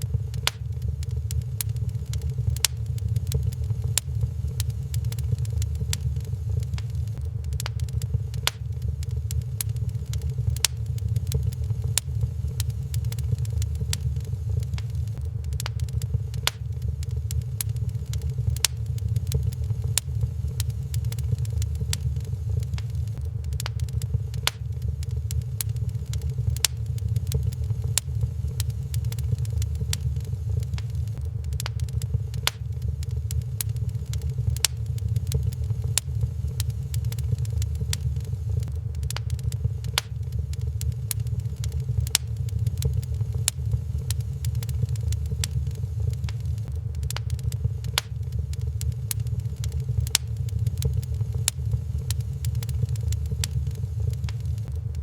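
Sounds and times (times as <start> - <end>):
low rumble: 0.0 - 55.0
wood fire crackling and popping: 0.0 - 55.0.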